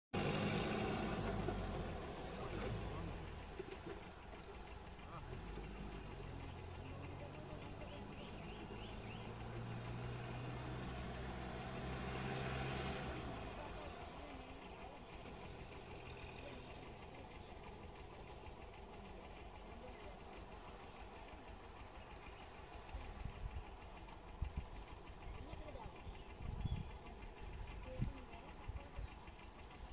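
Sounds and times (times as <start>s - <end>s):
vehicle engine humming: 0.1s - 29.9s.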